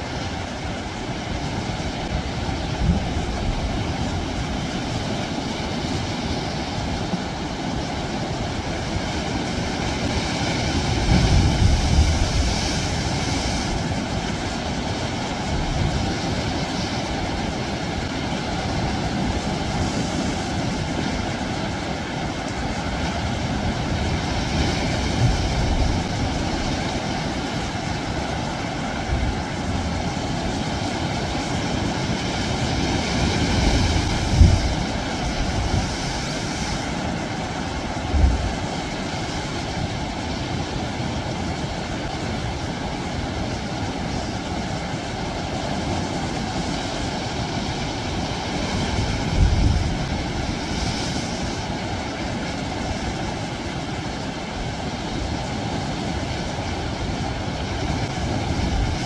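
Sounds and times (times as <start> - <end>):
waves breaking over rocks: 0.0 - 59.0.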